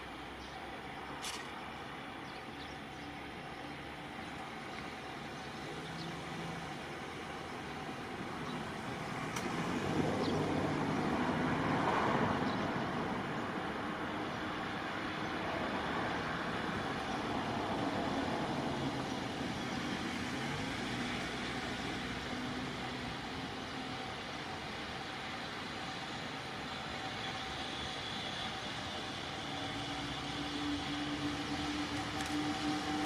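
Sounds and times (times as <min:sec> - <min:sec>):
distant vehicles rumbling: 0:00.0 - 0:33.0.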